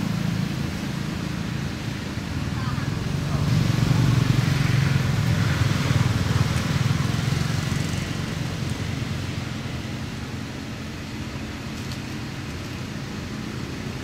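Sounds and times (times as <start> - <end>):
vehicle passing by: 0.0 - 11.4.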